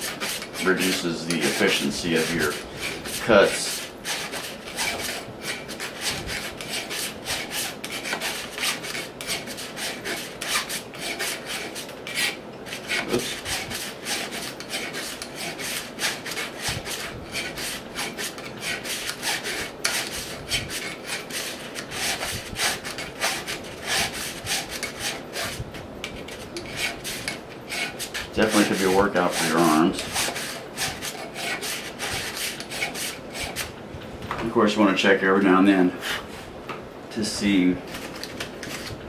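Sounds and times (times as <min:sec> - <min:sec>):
hand file rasping on steel shaft: 0:00.0 - 0:33.7.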